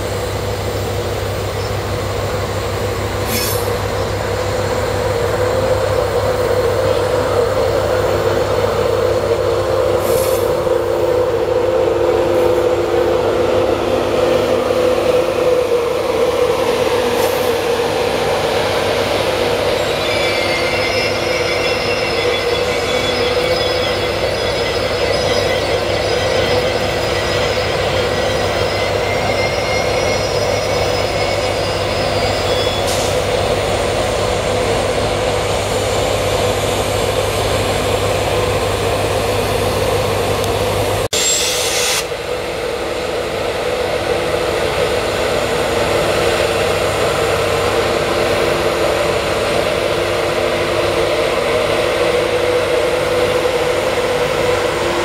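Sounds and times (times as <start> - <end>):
steady drone of trains: 0.0 - 55.0.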